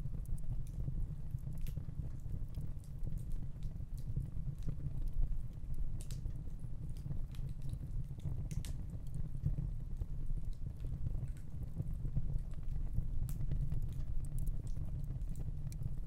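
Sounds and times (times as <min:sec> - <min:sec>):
gas fire flames rumbling: 0:00.0 - 0:16.0
small crackles and ticks: 0:00.0 - 0:16.0.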